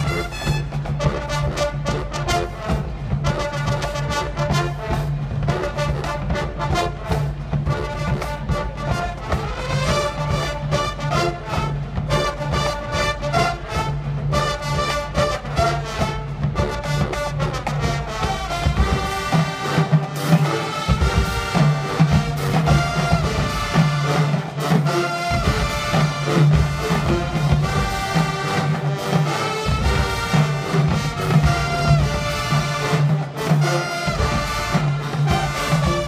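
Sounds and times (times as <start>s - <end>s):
marching band playing: 0.0s - 36.0s.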